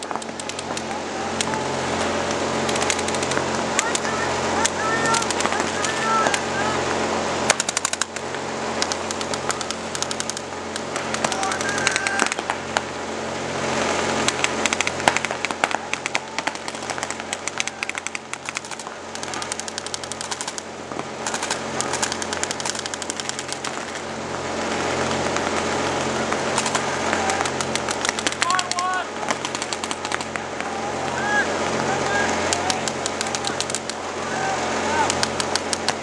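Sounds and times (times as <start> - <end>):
sharp pops: 0.0 - 6.5, 7.5 - 12.9, 14.2 - 24.1, 25.3 - 30.7, 32.5 - 34.0, 35.0 - 36.0.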